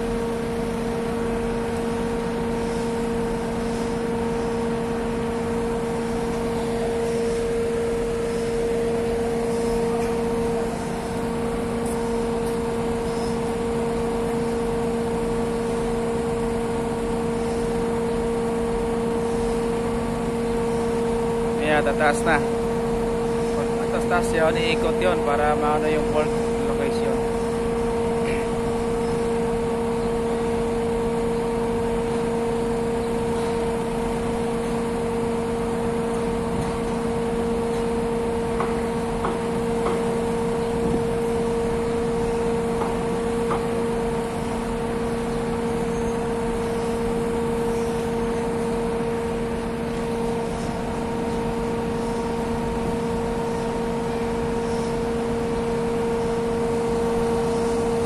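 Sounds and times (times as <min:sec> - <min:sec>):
crane diesel engine droning: 0:00.0 - 0:58.0.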